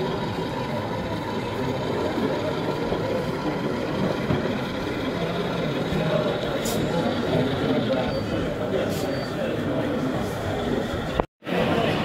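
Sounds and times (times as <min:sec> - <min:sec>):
crowd voices hubbub: 0:00.0 - 0:12.0.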